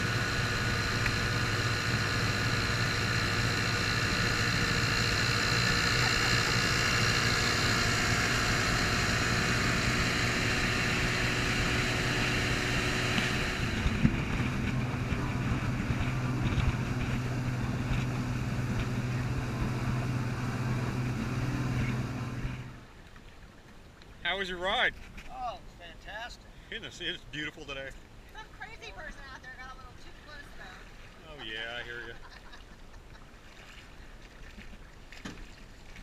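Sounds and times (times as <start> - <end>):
outboard motors running: 0.0 - 25.3, 26.4 - 36.0
water rushing past hull: 0.0 - 25.8, 26.5 - 36.0.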